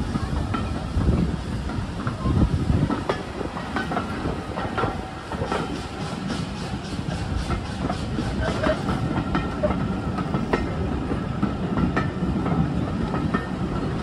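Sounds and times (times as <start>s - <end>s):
train wheels rumbling on rails: 0.0s - 14.0s
wheels clicking and clanking: 0.0s - 14.0s.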